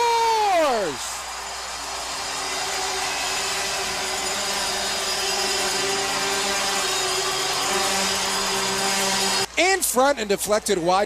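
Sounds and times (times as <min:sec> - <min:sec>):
arena crowd din: 0:00.0 - 0:11.0.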